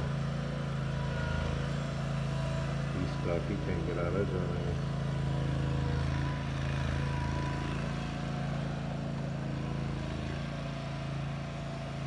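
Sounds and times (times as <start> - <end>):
small engine humming: 0.0 - 12.0.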